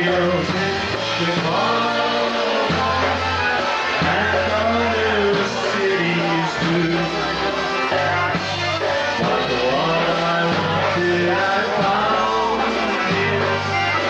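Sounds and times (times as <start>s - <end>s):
person singing: 0.0s - 14.0s
polka band playing: 0.0s - 14.0s.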